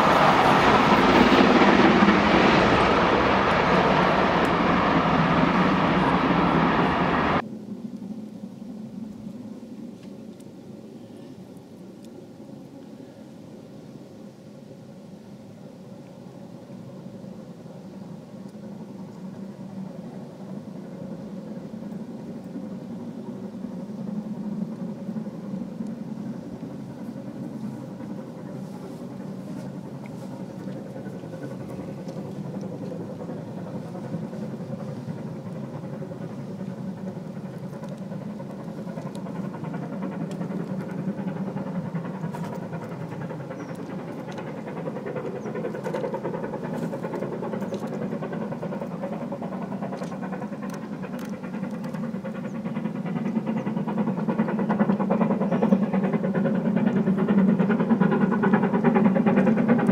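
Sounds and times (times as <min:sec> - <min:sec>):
steam locomotive approaching: 0:00.0 - 0:59.9.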